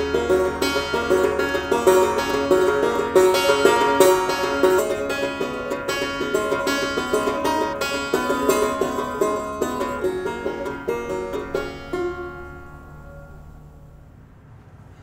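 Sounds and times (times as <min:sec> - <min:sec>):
plucked string notes: 0:00.0 - 0:14.2.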